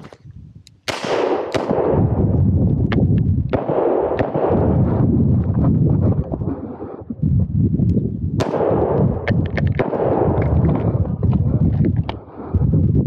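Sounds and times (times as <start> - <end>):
low rumble: 1.5 - 13.0.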